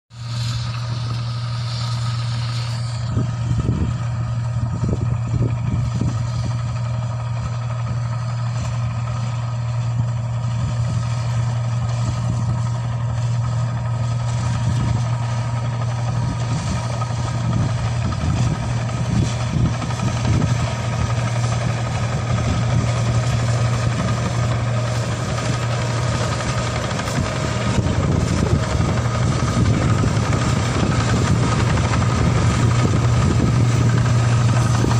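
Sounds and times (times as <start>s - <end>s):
harvester engine droning: 0.1s - 34.9s.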